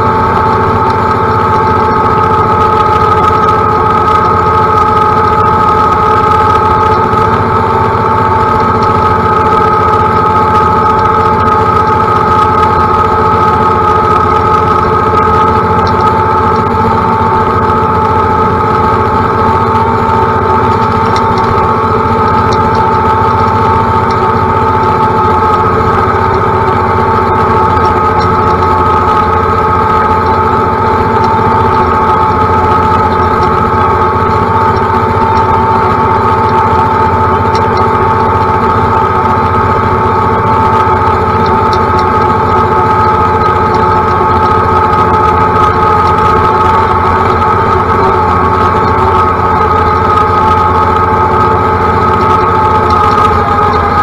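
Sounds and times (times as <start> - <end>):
high-pitched whine: 0.0 - 54.0
tractor diesel engine running: 0.0 - 54.0.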